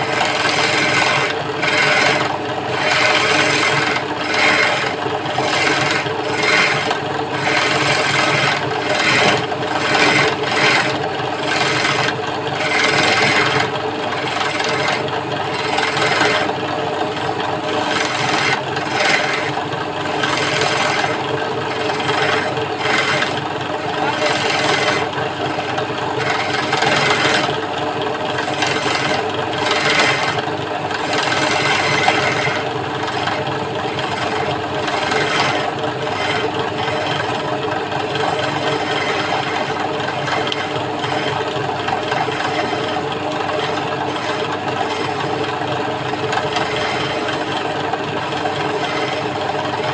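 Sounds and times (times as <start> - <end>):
cutting tool scraping wood: 0.0 - 49.9
wood lathe humming: 0.0 - 49.9.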